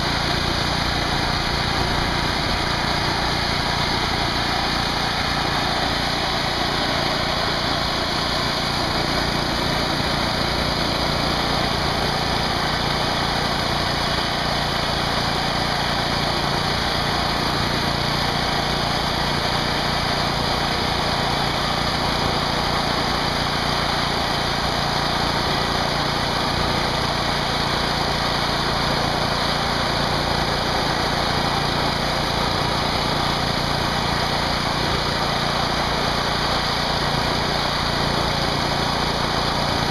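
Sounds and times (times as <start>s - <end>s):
high-pressure water jet hissing: 0.0s - 39.9s
pressure washer engine drone: 0.0s - 39.9s.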